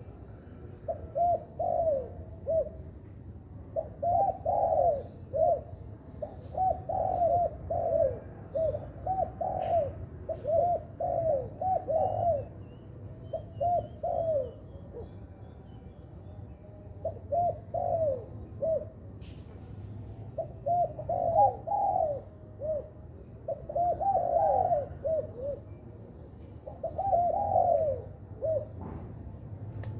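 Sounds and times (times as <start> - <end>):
dove cooing: 0.0 - 3.0, 3.6 - 15.4, 16.8 - 29.7.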